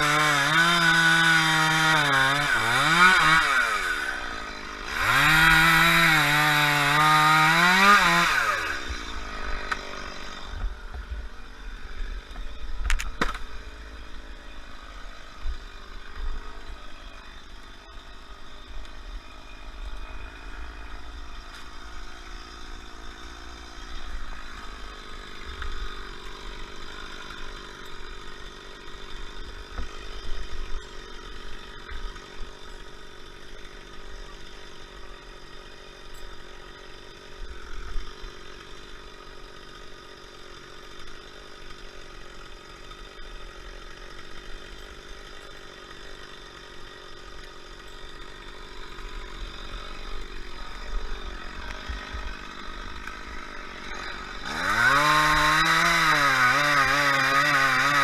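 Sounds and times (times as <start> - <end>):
chainsaw engine idling and revving: 0.0 - 58.0.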